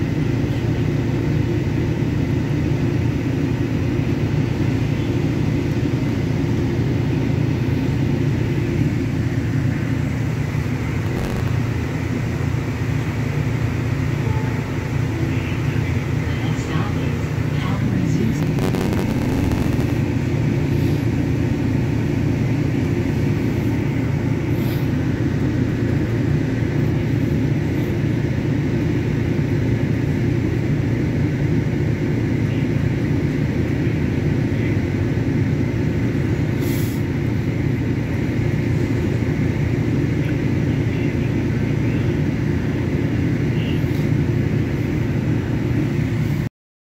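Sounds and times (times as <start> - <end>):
train car hum and rumble: 0.0 - 46.5.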